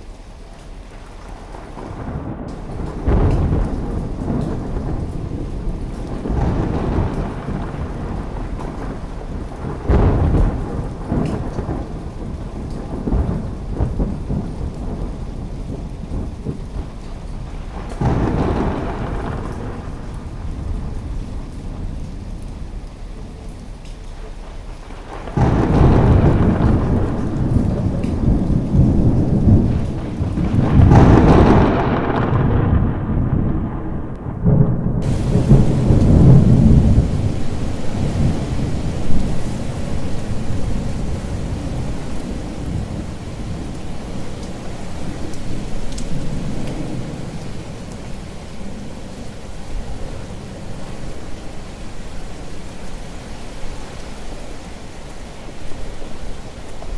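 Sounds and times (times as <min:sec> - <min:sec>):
steady rain: 0:00.0 - 0:56.9
thunder rumbling: 0:00.9 - 0:54.6.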